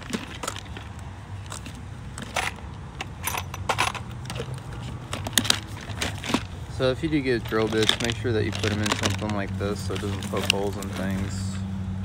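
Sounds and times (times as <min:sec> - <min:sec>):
drill bits rattling in plastic box: 0:00.0 - 0:11.4.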